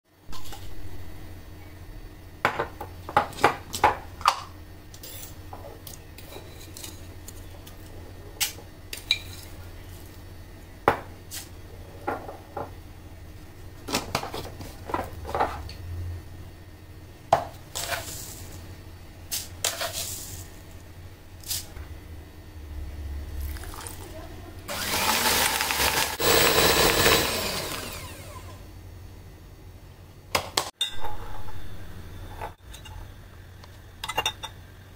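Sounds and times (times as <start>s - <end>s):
low steady hum: 4.0s - 24.7s, 26.3s - 34.9s.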